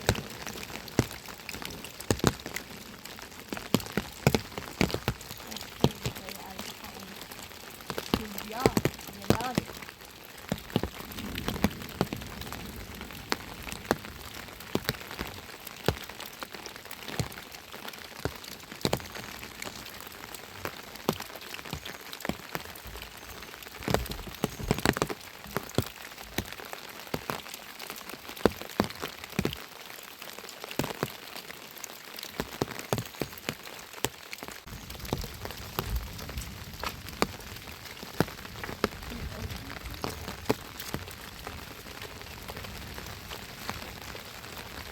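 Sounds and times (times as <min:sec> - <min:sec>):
rain hissing: 0:00.0 - 0:29.5, 0:30.3 - 0:44.9
sharp raindrop hits: 0:00.0 - 0:44.9.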